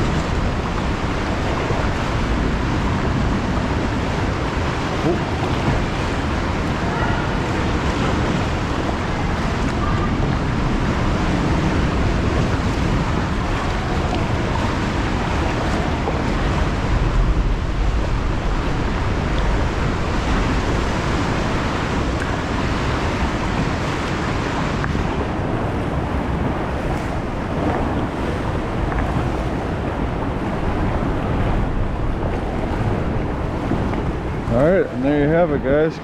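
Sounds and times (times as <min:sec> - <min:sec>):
sea rushing: 0:00.0 - 0:36.0
wind buffeting microphone: 0:00.0 - 0:36.0.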